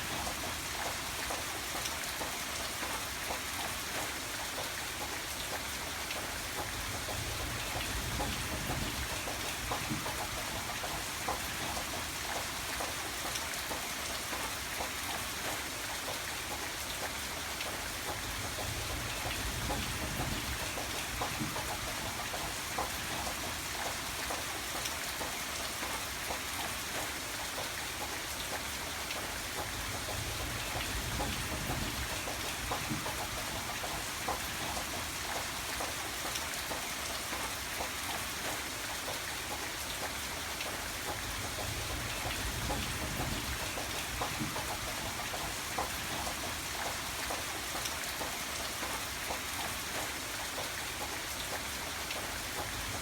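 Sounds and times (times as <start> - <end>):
raindrops striking a surface: 0.0 - 53.0
steady rain hiss: 0.0 - 53.0.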